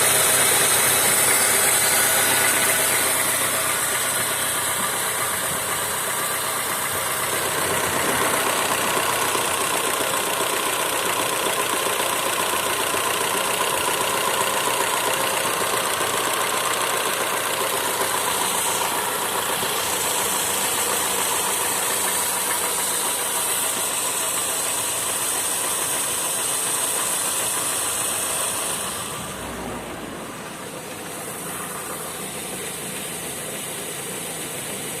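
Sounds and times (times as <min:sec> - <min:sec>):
car engine running with a knock: 0:00.0 - 0:35.0.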